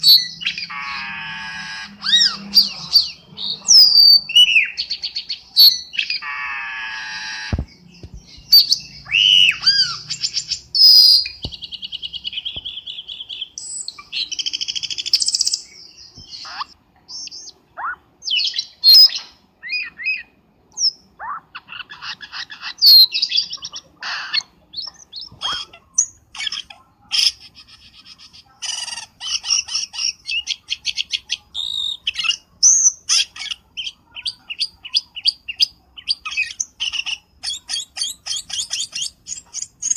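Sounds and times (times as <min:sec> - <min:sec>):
bird whistling and chirping: 0:00.0 - 0:27.4, 0:28.6 - 0:39.9.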